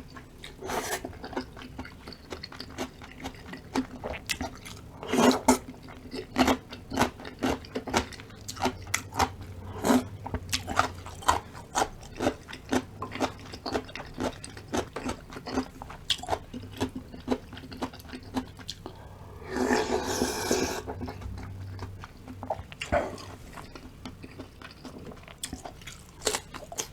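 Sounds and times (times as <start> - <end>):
chewing and crunching food: 0.0 - 26.9.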